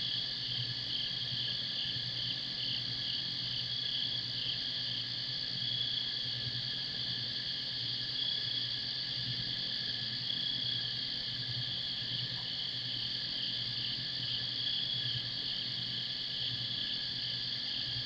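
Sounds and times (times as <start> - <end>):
crickets and insects trilling: 0.0 - 18.0.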